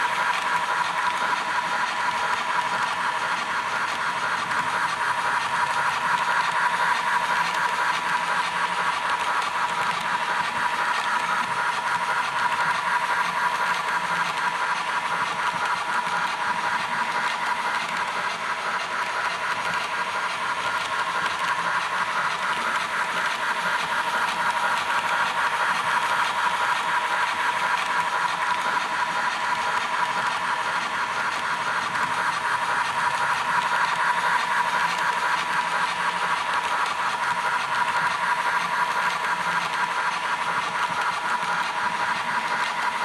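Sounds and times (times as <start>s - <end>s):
model train running: 0.0s - 43.0s.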